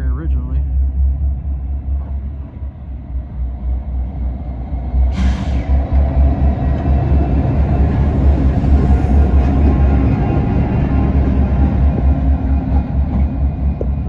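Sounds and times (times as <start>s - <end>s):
diesel locomotives rumbling: 0.0s - 14.0s.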